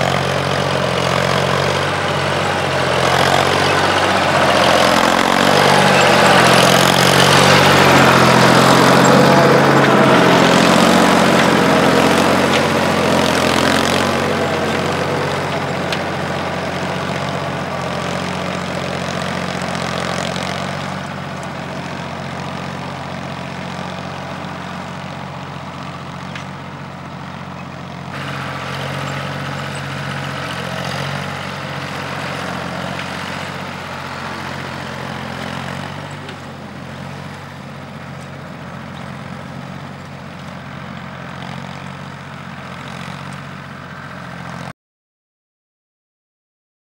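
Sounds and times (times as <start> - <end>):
tractor diesel engine running: 0.0 - 44.7.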